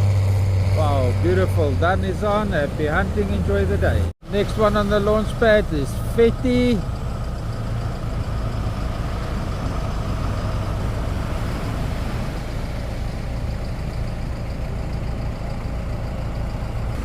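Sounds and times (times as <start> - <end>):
tractor engine rumbling: 0.0 - 17.0.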